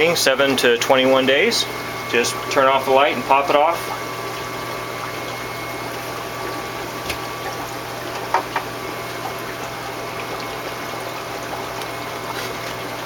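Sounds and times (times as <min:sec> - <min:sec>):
running and bubbling water: 0:00.0 - 0:13.0
air bubbling: 0:01.3 - 0:13.0.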